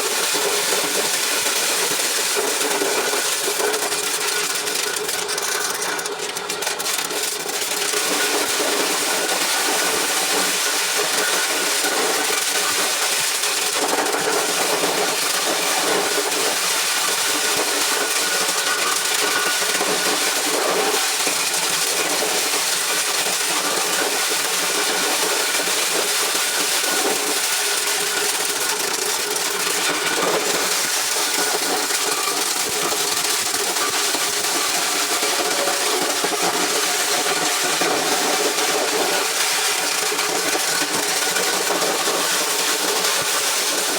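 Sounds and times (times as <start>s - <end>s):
corn shelling machine clatter: 0.0s - 43.9s.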